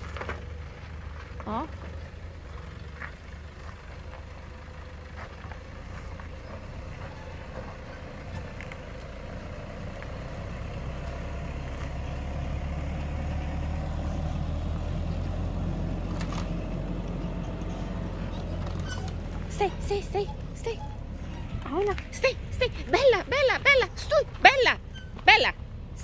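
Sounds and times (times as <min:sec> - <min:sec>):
truck engine running at low revs: 0:00.0 - 0:26.0.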